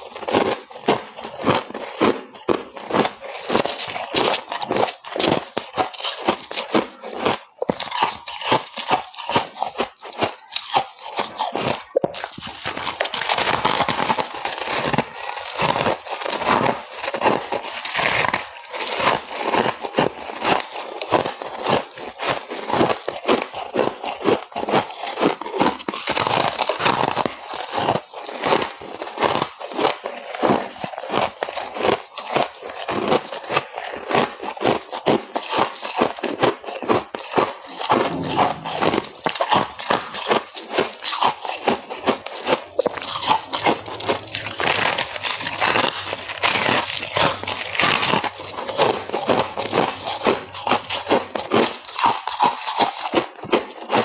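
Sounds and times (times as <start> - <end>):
crunching of ice: 0.0 - 38.7, 40.9 - 54.0.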